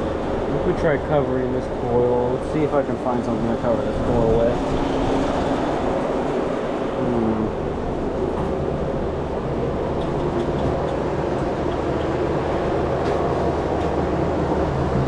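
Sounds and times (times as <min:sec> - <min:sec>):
refrigeration unit humming: 0:00.0 - 0:15.0.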